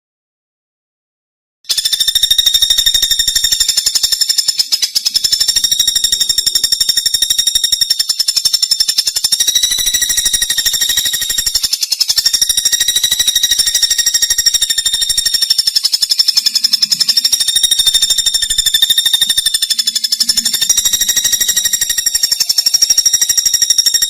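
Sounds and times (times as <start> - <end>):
songbird high rapid trill: 1.7 - 24.0.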